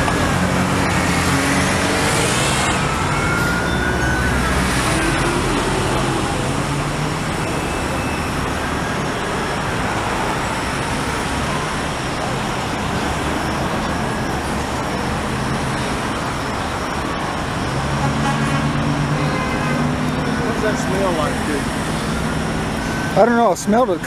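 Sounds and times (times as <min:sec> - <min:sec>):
highway traffic noise: 0:00.0 - 0:24.0
vehicle engines idling: 0:00.0 - 0:24.0.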